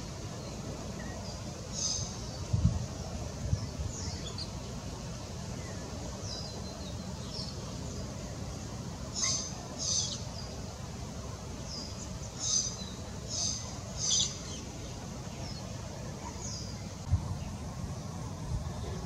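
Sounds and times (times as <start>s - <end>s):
small birds chirping: 0.0s - 18.1s
steady outdoor hiss: 0.0s - 19.0s.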